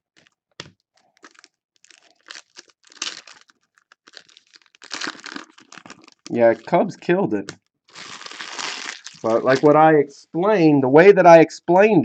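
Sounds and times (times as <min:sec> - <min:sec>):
foil wrapper crinkling and tearing: 0:00.2 - 0:09.8.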